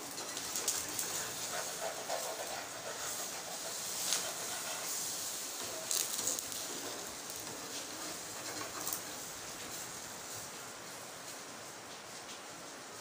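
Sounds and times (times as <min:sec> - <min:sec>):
batter sizzling in pan: 0:00.0 - 0:11.4.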